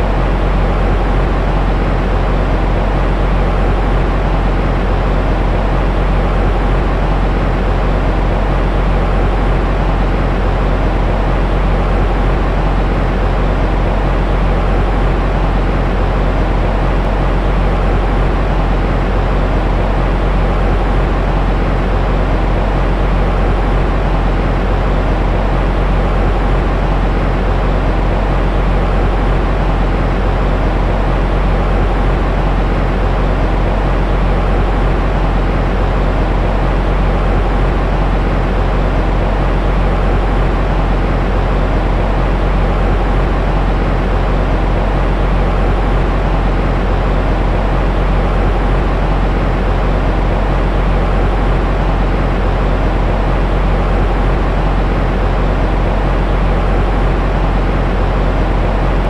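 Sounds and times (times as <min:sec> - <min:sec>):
deep white noise: 0:00.0 - 0:59.0.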